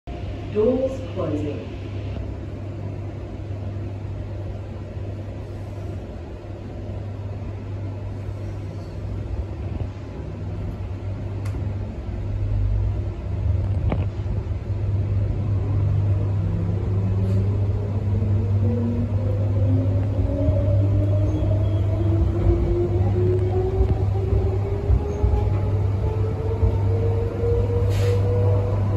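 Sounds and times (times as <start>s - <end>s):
train low hum: 0.1s - 28.9s.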